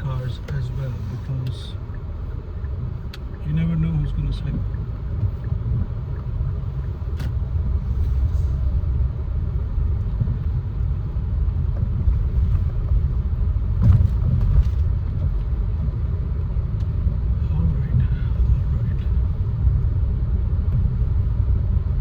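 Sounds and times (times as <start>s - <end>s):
car rumble on snowy road: 0.0s - 22.0s.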